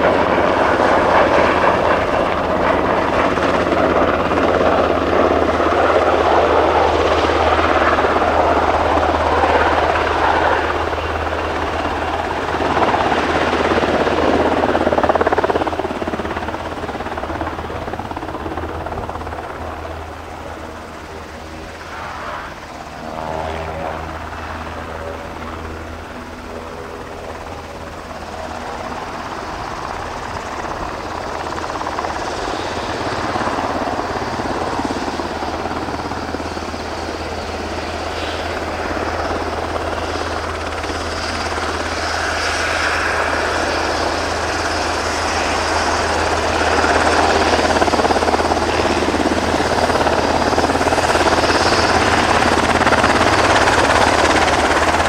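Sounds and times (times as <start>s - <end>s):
helicopter rotor and turbine: 0.0s - 55.0s.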